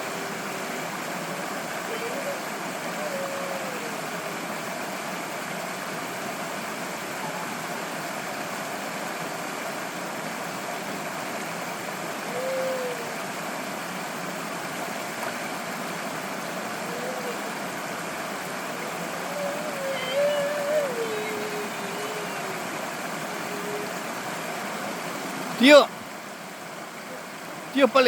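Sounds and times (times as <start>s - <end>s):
mountain stream rushing: 0.0s - 28.0s.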